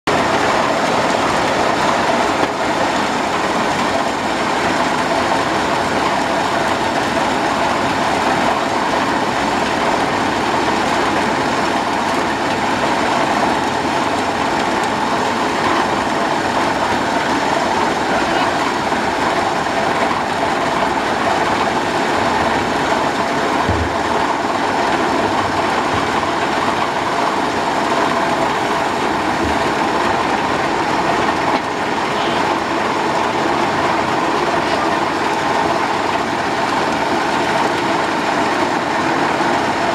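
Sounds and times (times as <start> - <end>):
grape destemmer running: 0.1 - 39.9.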